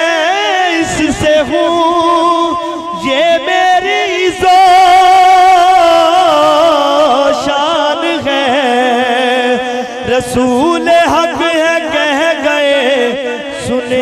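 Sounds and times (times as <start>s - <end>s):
man singing through loudspeaker: 0.0s - 14.0s.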